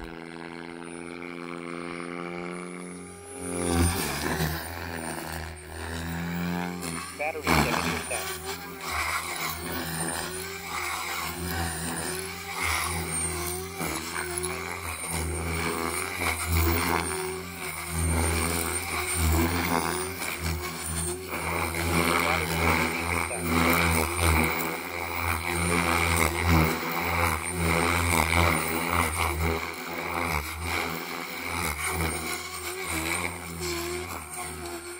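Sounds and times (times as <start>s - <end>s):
rc helicopter rotor whine: 0.0s - 34.9s.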